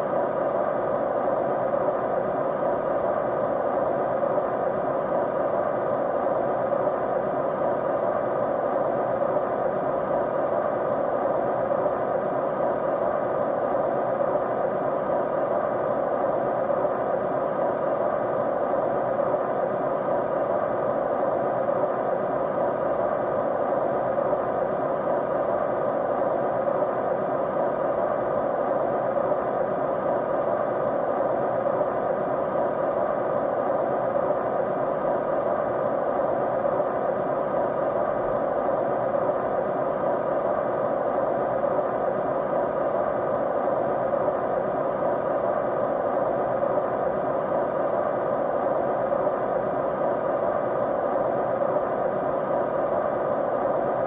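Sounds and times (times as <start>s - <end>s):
white noise: 0.0s - 54.0s.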